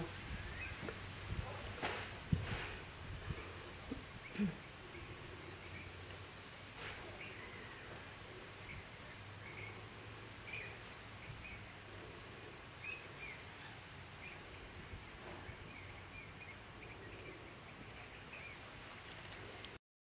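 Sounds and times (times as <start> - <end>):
steady outdoor background noise: 0.0 - 19.8.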